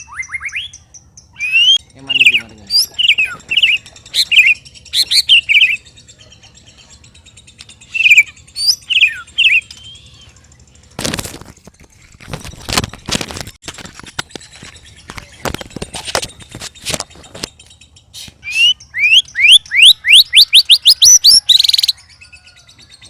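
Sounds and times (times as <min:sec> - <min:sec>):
bird clicking and rasping notes: 0:00.0 - 0:23.0.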